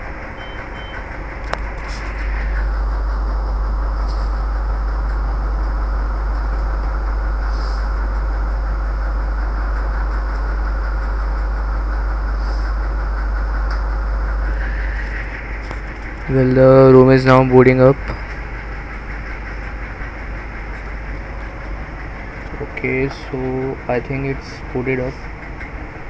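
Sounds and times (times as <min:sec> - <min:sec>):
low rumble and hiss: 0:00.0 - 0:26.0.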